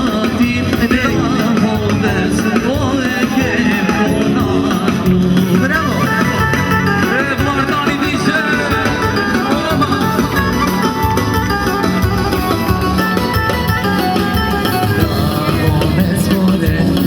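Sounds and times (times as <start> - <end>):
band playing instrumental music: 0.0 - 17.0
plucked string lead: 0.0 - 17.0.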